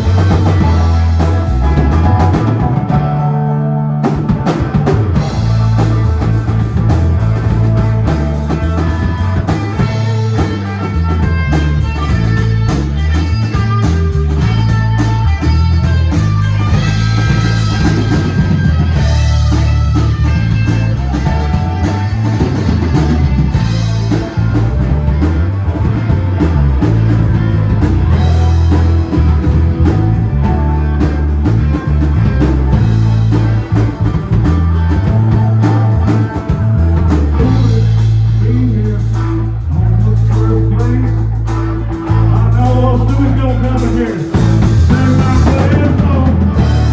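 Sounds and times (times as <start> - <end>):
rock band playing: 0.0 - 46.9.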